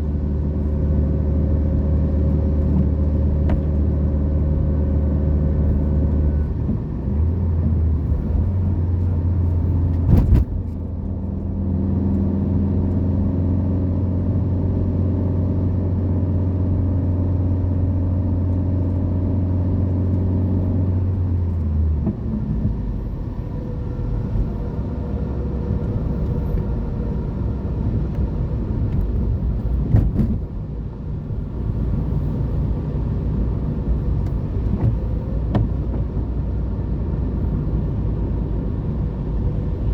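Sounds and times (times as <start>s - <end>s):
car engine hum: 0.0s - 39.9s
road noise rumble: 0.0s - 39.9s.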